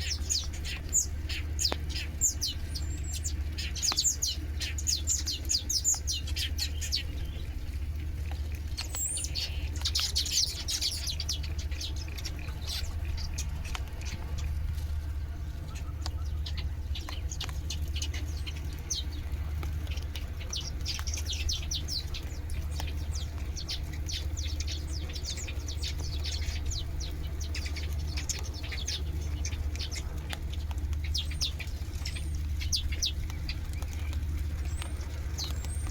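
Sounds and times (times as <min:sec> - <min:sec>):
small birds chirping: 0:00.0 - 0:35.9
steady low hum: 0:00.0 - 0:35.9.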